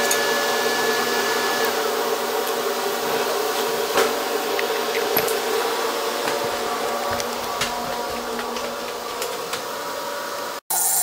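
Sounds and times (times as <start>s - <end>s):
welding machine humming: 0.0s - 11.0s.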